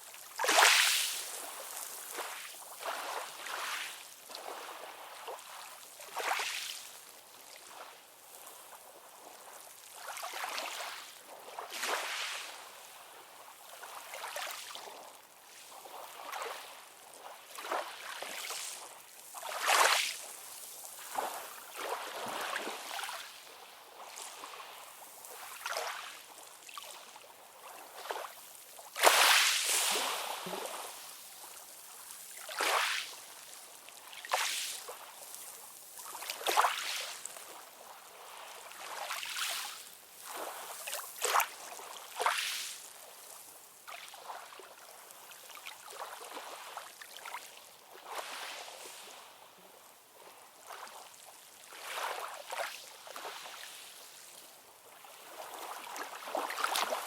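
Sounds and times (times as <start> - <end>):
small waves lapping and splashing: 0.0 - 57.0.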